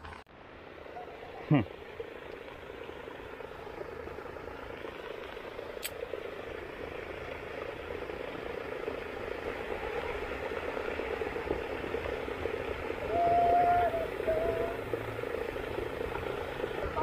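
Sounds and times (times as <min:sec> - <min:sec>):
paddlewheel aerator churning water: 0:00.8 - 0:17.0.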